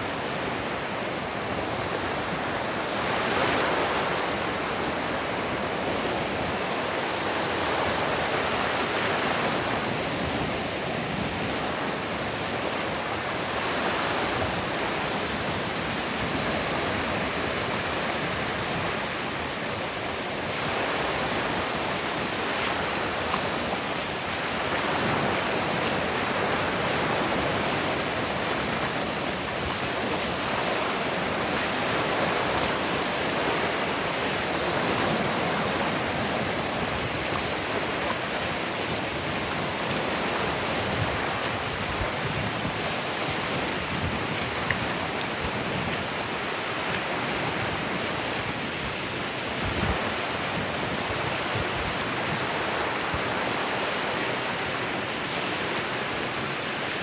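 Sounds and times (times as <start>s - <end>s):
surf washing onto beach: 0.0s - 57.0s.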